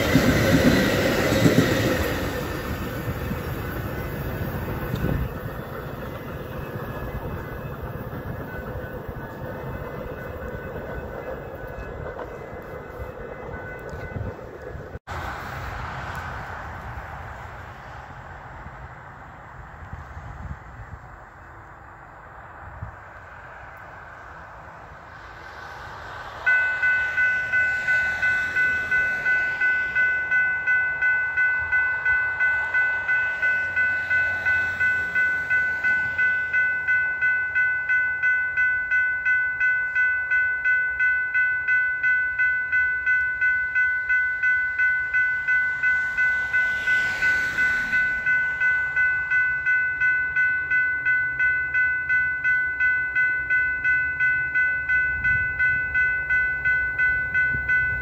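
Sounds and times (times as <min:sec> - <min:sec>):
railroad crossing bell ringing: 0:00.0 - 0:15.0, 0:25.4 - 0:58.0.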